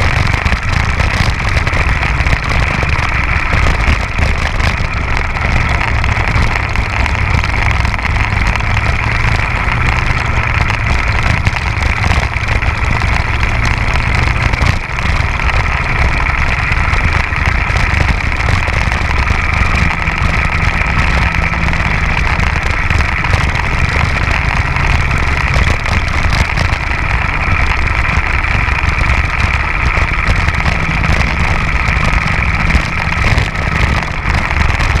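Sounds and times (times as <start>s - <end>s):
kart engine running hard: 0.0s - 35.0s.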